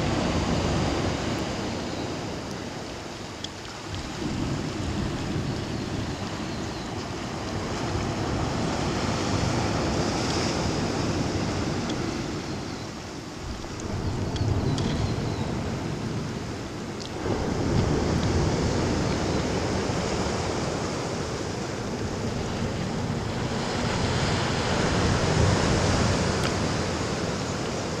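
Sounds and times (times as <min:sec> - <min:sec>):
wind blowing across microphone: 0:00.0 - 0:28.0.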